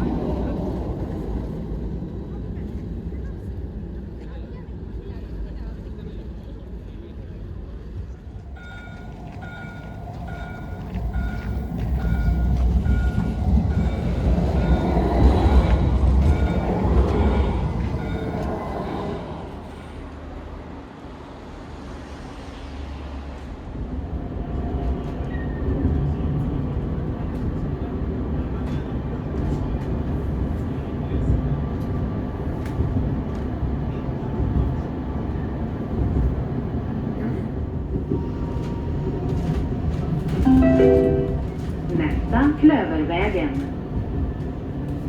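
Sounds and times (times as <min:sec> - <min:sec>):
tram rumbling on rails: 0:00.0 - 0:45.0.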